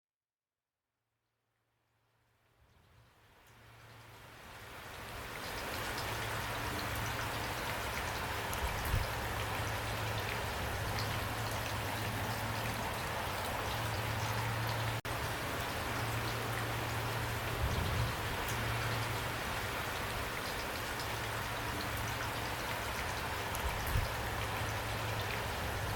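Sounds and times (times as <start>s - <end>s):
steady rain falling: 2.6s - 25.9s.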